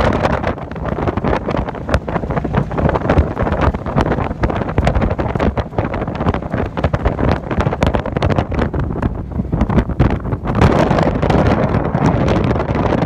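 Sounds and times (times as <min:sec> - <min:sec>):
buggy engine running: 0:00.0 - 0:13.0
wind buffeting microphone: 0:00.0 - 0:13.0.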